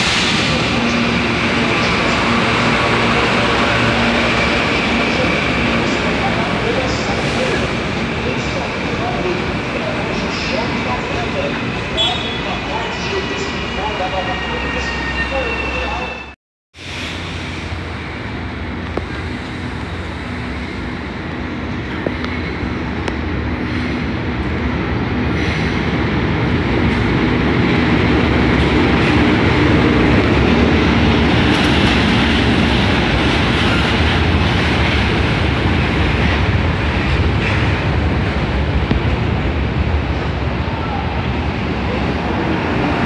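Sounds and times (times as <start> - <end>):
diesel locomotive engines: 0.0 - 43.0.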